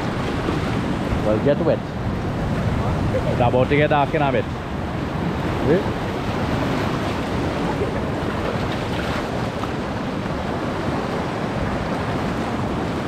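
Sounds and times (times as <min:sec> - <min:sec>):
waves breaking among rocks: 0:00.0 - 0:13.0.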